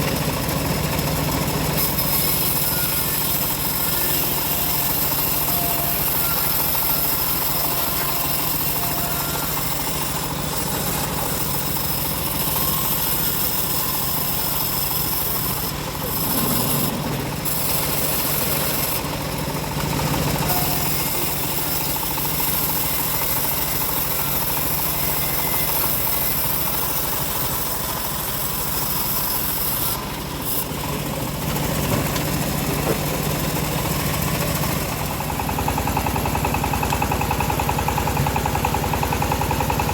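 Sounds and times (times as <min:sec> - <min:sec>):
bandsaw sawmill sawing log: 0:00.0 - 0:39.9.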